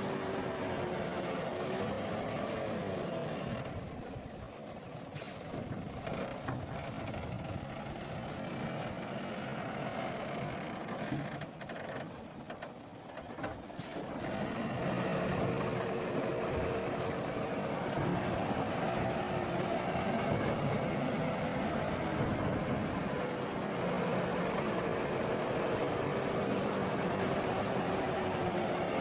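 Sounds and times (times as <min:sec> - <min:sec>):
heavy diesel machinery running: 0:00.0 - 0:29.0.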